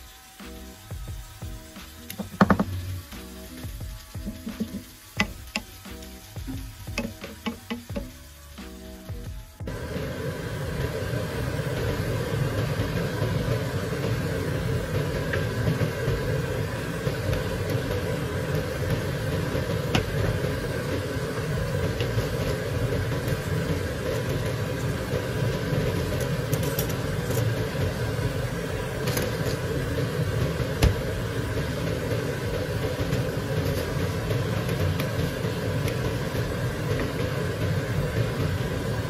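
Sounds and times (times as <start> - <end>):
food frying in a pan: 0.0 - 39.0.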